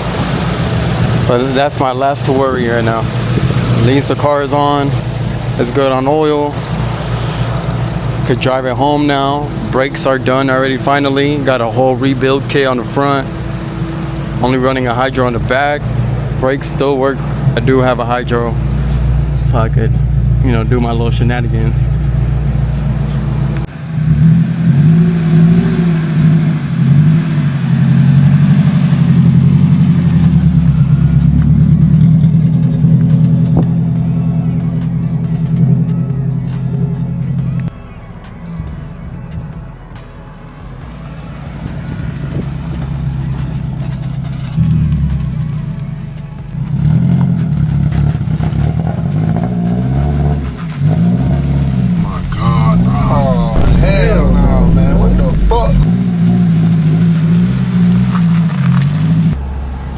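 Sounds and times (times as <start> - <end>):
car engine running: 0.0 - 49.0, 50.5 - 59.5.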